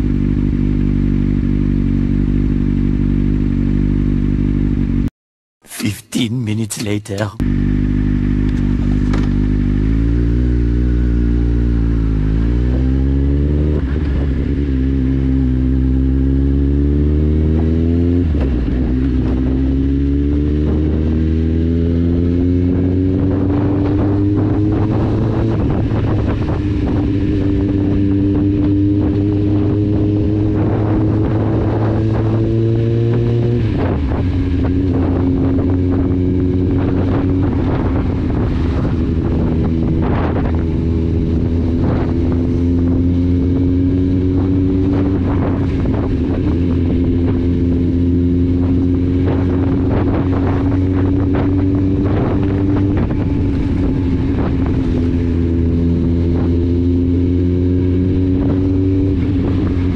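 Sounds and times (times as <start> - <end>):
motorcycle engine revving through gears: 0.0 - 5.1, 7.4 - 59.9.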